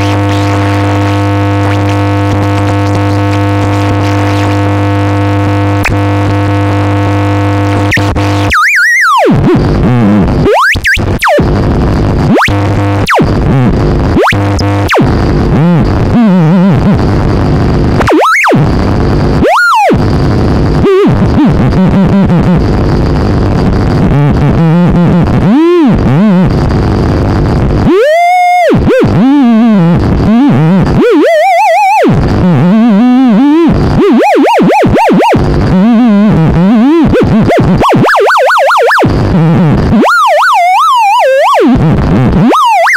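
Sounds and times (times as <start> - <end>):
sliding electronic tone: 0.0 - 22.6, 27.9 - 42.9
buzzing synth drone: 0.0 - 42.9.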